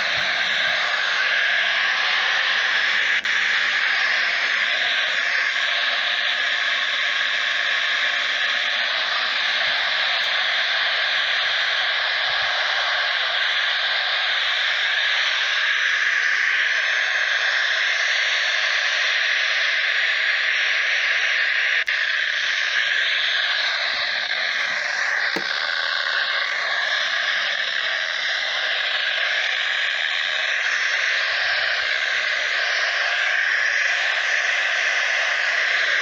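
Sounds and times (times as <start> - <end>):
faint wavering whistles: 0.0 - 16.3, 19.8 - 36.0
radio static hiss: 0.0 - 36.0.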